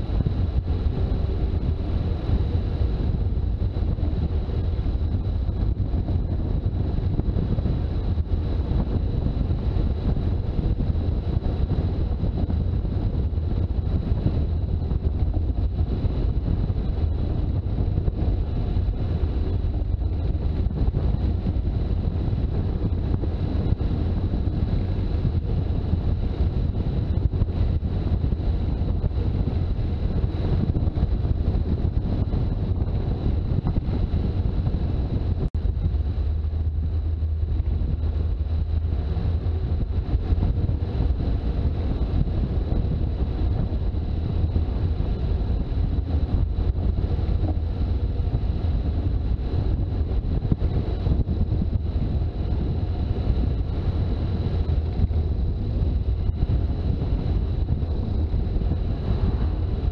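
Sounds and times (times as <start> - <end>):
engine and road rumble: 0.0 - 59.9
wind buffeting microphone: 0.0 - 59.9.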